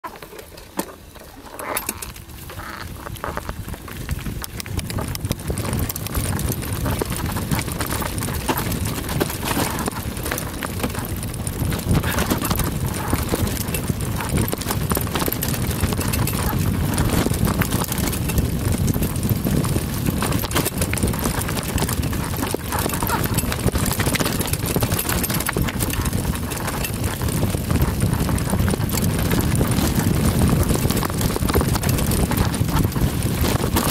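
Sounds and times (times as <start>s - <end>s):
bike clattering and rattling: 0.0s - 33.9s
tyres on dirt: 0.0s - 33.9s
wind rushing on camera: 1.2s - 33.9s.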